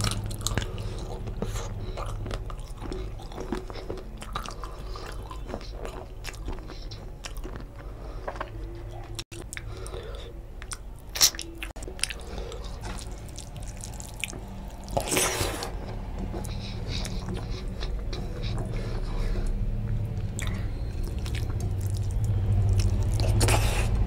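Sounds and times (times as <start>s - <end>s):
chewing mouth sounds: 0.0s - 24.0s
low hum: 0.0s - 24.0s.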